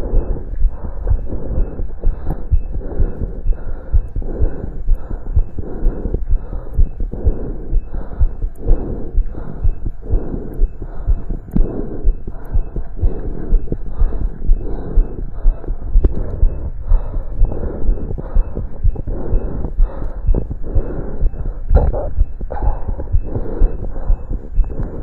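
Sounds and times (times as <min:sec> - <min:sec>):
heartbeat through stethoscope: 0:00.0 - 0:25.0.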